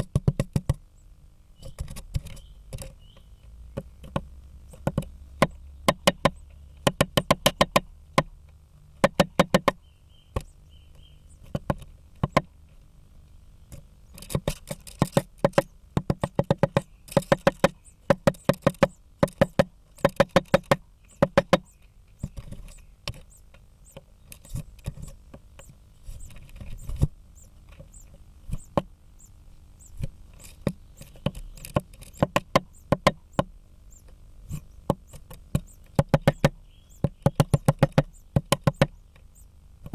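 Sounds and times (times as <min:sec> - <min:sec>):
woodpecker knocking on wood: 0:00.0 - 0:00.8, 0:01.6 - 0:08.4, 0:09.0 - 0:12.6, 0:13.7 - 0:39.9.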